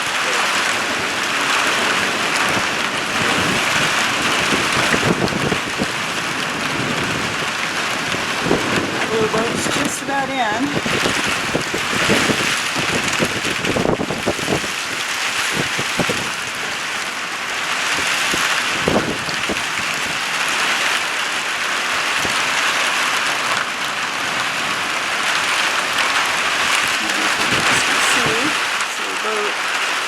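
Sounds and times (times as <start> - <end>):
heavy rain hiss: 0.0 - 30.0
raindrops knocking: 0.0 - 30.0.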